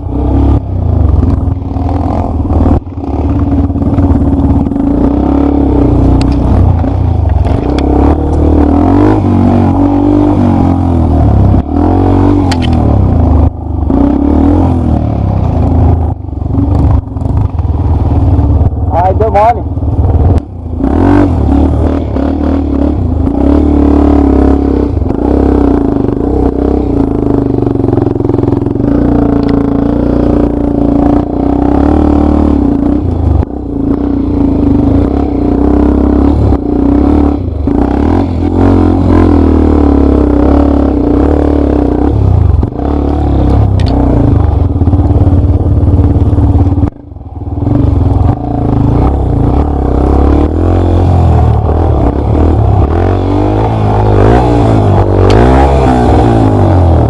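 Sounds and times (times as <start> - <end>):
dirt bike engine running hard: 0.0 - 57.0.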